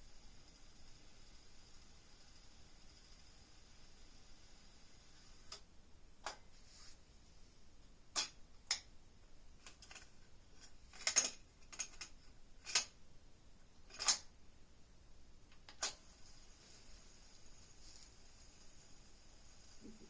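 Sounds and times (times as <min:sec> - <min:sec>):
faint hiss: 0:00.0 - 0:10.5, 0:12.3 - 0:20.0.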